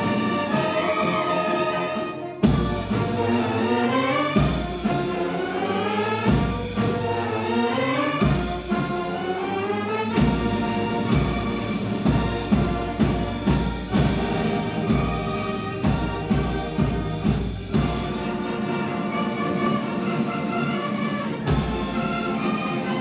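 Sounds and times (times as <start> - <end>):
bass drum and timpani strokes: 0.0 - 23.0
brass band playing: 0.0 - 23.0.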